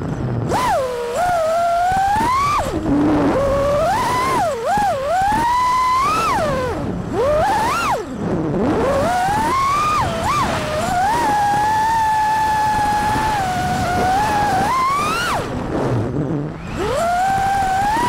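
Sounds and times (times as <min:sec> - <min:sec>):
drone motors whining: 0:00.4 - 0:18.0.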